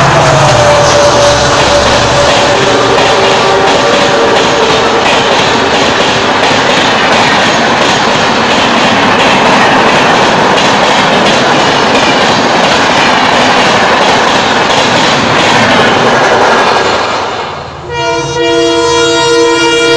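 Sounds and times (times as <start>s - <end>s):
train passing at high speed: 0.0s - 19.9s.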